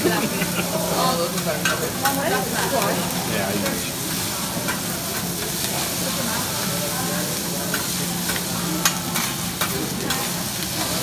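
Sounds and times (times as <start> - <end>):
faint voices chattering: 0.0 - 11.0
rice sizzling on a griddle: 0.0 - 11.0.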